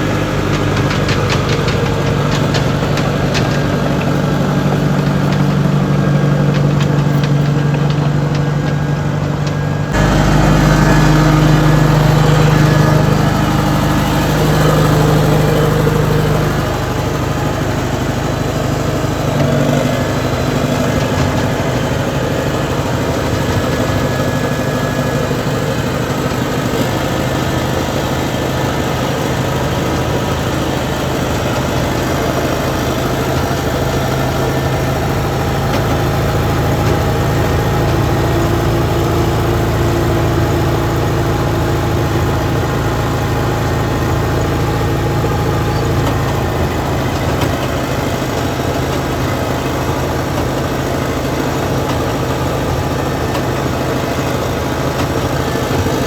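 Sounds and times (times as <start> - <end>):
track loader engine running: 0.0 - 56.0.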